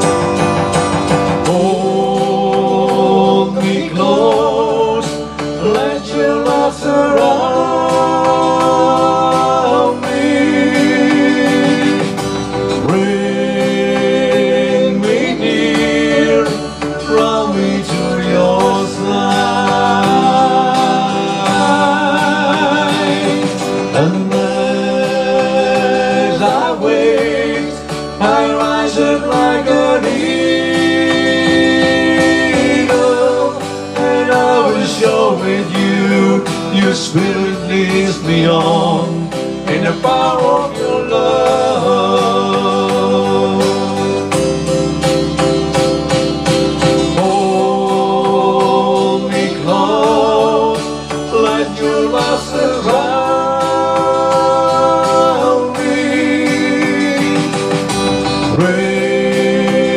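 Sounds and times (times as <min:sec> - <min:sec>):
guitar backing: 0:00.0 - 0:59.9
two men singing together: 0:01.3 - 0:44.6, 0:46.8 - 0:59.9.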